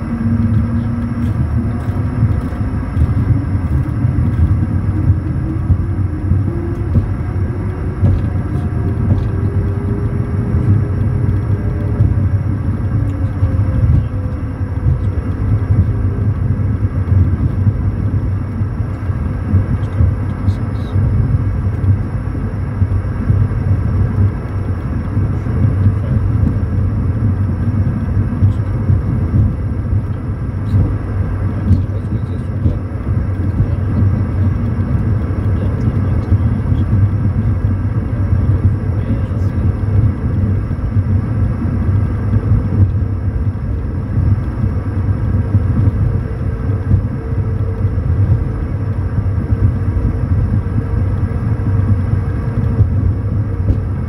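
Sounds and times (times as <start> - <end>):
jet engine low rumble: 0.0 - 54.0
turbofan whining tones: 0.0 - 54.0.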